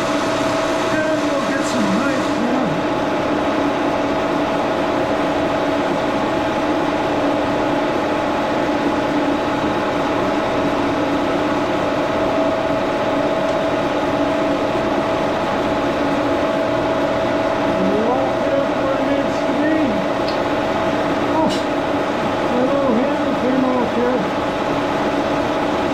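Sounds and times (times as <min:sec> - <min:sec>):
milling machine humming and whining: 0:00.0 - 0:25.9.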